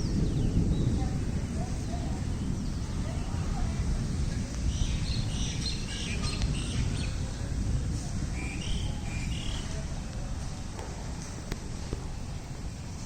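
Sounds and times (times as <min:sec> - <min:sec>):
birds chirping: 0:00.0 - 0:13.0
heavy rain: 0:00.0 - 0:13.0.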